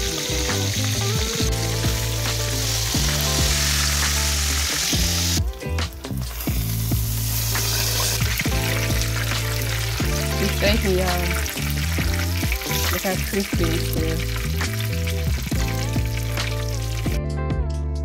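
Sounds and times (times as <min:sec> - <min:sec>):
fish sizzling in hot oil: 0:00.0 - 0:17.2
music: 0:00.0 - 0:18.0.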